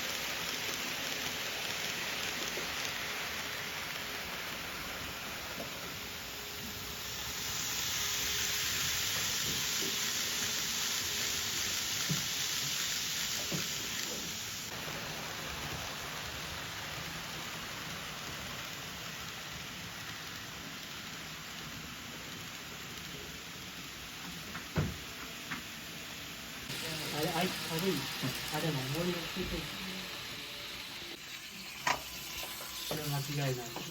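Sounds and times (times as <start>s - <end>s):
model train running on track: 0.0s - 33.9s.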